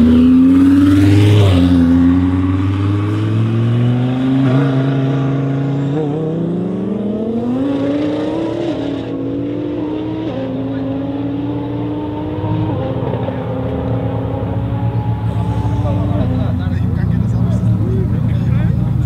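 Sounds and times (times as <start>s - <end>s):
car accelerating through gears: 0.0s - 18.1s.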